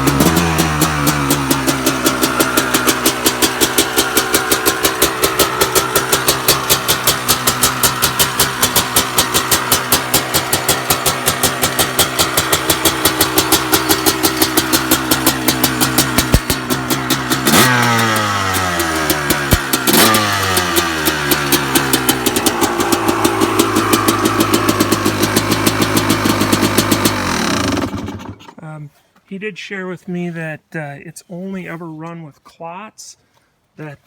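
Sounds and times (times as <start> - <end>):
engine throttle blip: 0.0 - 28.5
two-stroke engine idling: 0.0 - 28.6.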